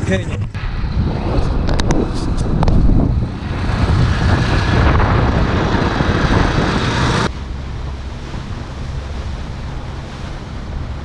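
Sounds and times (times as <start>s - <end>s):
steady low hum: 0.0s - 11.0s
wind buffeting microphone: 0.0s - 11.0s.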